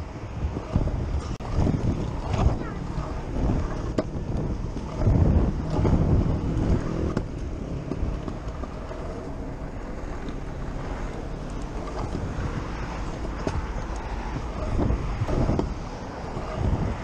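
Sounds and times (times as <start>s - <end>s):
scooter wheels rolling on concrete: 0.0s - 17.0s
wind buffeting microphone: 0.0s - 17.0s.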